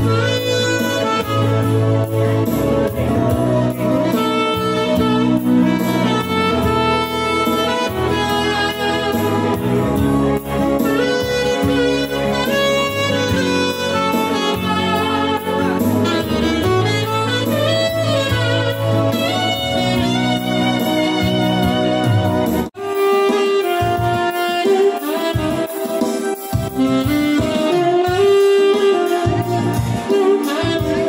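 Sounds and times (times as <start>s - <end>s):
electronic keyboard: 0.0s - 31.0s
programmed beat: 0.0s - 31.0s
saxophone melody: 0.0s - 31.0s.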